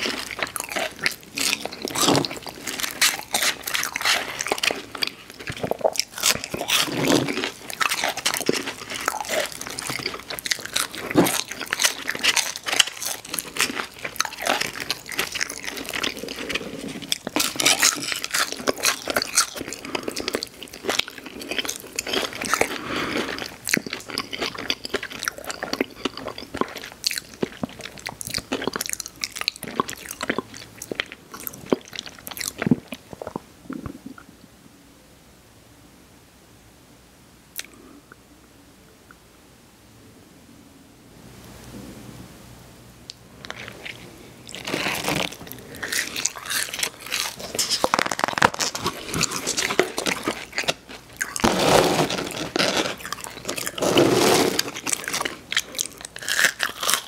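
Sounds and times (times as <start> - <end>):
crunchy chewing of fried food: 0.0 - 34.2, 43.4 - 57.0.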